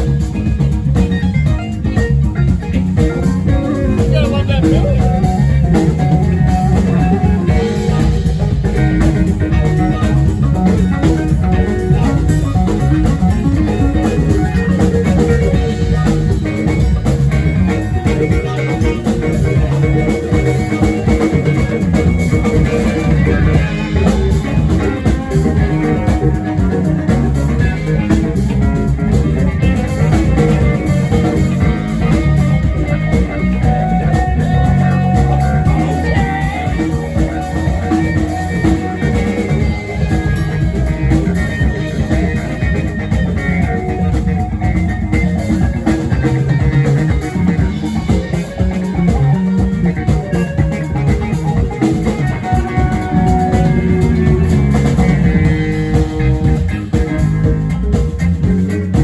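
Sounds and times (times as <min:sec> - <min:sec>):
electric guitars: 0:00.0 - 0:59.0
live rock band playing: 0:00.0 - 0:59.0.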